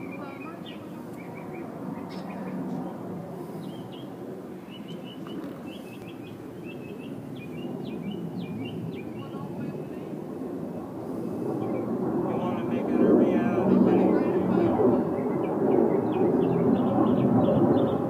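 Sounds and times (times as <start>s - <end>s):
small birds chirping: 0.0s - 10.2s, 11.2s - 12.7s, 13.9s - 18.0s
distant jet aircraft rumble: 0.0s - 18.0s.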